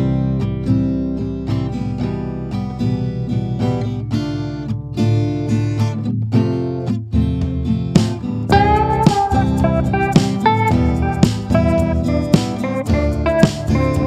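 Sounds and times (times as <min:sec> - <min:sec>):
acoustic guitar strummed and plucked: 0:00.0 - 0:14.0.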